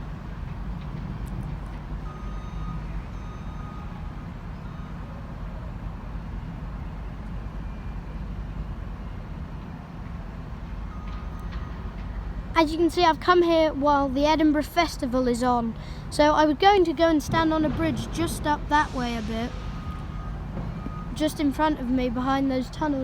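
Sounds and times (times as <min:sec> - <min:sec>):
low rumble of engines: 0:00.0 - 0:23.0.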